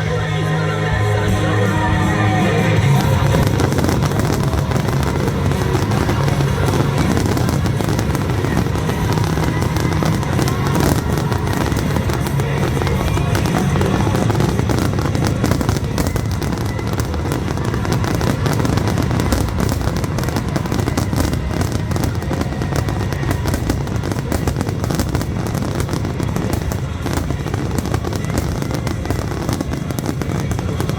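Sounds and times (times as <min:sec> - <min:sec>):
fireworks bursting: 0:00.0 - 0:30.9
loud music: 0:00.0 - 0:30.9.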